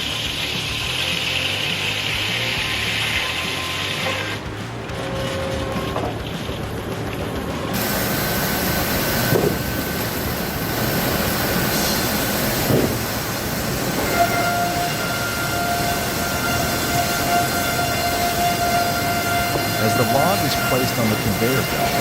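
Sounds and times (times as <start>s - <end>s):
lower machine whine: 0.0s - 22.0s
machinery rumble: 0.0s - 22.0s
thin machine whine: 0.0s - 22.0s
machinery knocks: 4.1s - 22.0s.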